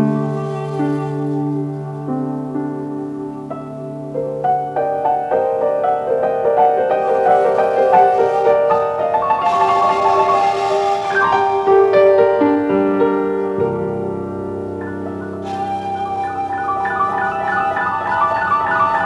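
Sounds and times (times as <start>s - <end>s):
piano playing quick notes: 0.0s - 19.0s.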